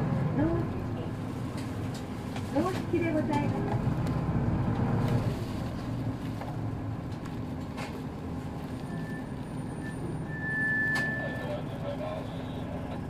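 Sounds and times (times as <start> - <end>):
bus diesel engine humming: 0.0 - 13.0.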